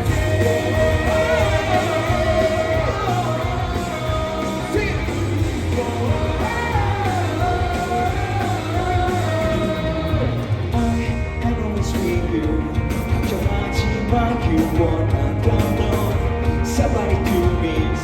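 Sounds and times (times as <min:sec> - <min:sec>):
electric guitar: 0:00.0 - 0:18.0
rock band playing: 0:00.0 - 0:18.0.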